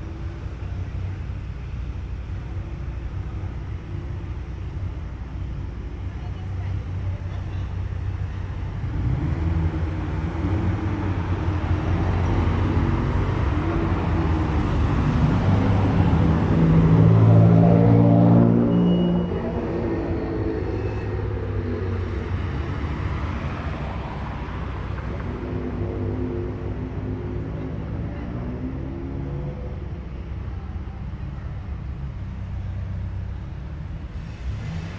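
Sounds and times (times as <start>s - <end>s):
car engine passing slowly: 0.4s - 34.9s.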